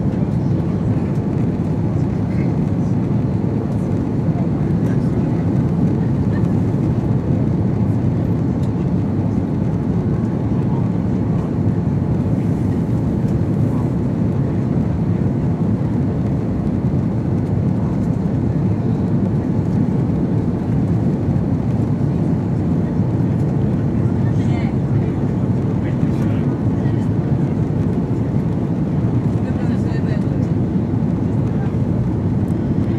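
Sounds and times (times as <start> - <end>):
airliner cabin engine and airflow: 0.0 - 32.9.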